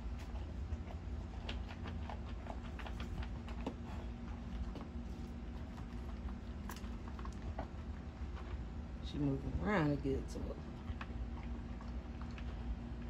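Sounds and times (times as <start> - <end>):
dog chewing food: 0.0 - 9.1, 10.4 - 13.0
low steady rumble: 0.0 - 13.0.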